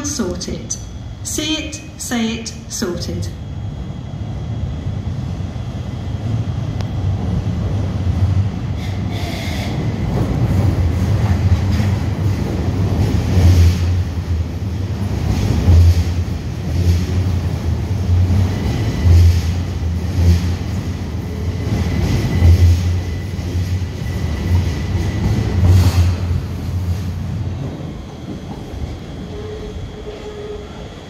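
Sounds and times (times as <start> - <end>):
train rumbling in heavy pulses: 0.0 - 31.0.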